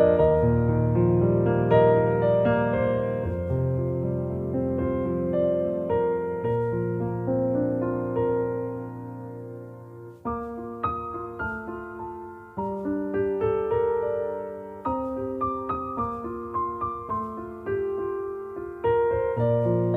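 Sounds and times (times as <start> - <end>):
gentle solo piano: 0.0 - 19.9.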